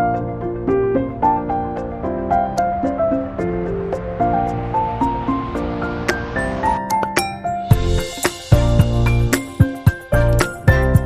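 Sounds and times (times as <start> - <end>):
melody of sustained notes: 0.0 - 10.4
low steady accompaniment: 0.0 - 11.0.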